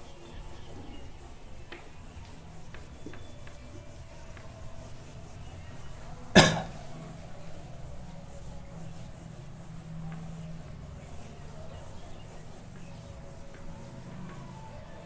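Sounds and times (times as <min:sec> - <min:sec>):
eraser rubbing whiteboard: 0:00.0 - 0:15.0.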